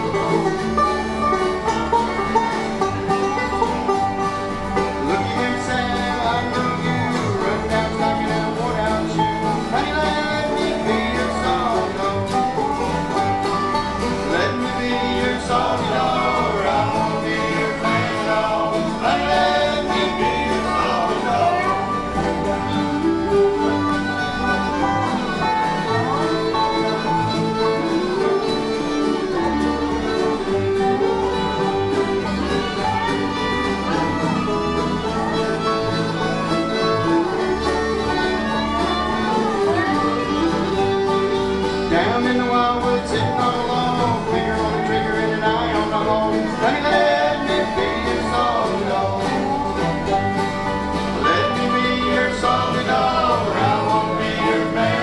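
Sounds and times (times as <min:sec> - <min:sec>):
banjo: 0:00.0 - 0:55.0
bass line: 0:00.0 - 0:55.0
fiddle: 0:00.0 - 0:55.0
harmonica: 0:00.0 - 0:55.0
strummed acoustic guitar: 0:00.0 - 0:55.0.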